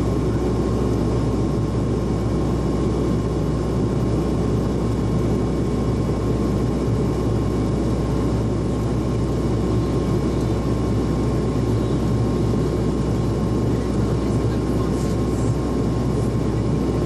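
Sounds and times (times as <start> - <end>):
turboprop engines droning in flight: 0.0 - 17.0.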